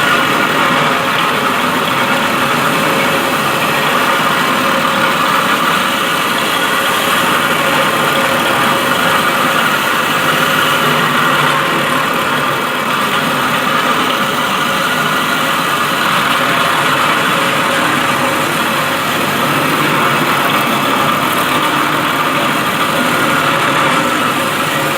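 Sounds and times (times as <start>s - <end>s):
concrete floor grinder running: 0.0s - 24.9s.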